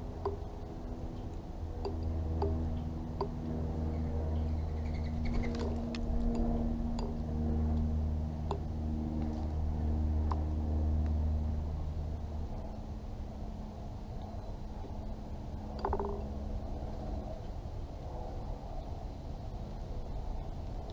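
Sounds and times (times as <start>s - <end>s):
low motor hum with pitched tones: 0.0s - 20.9s.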